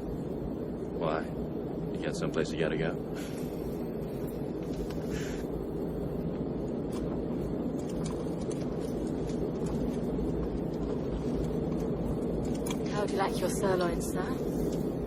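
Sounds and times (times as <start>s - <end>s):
airliner cabin low rumble: 0.0s - 15.0s.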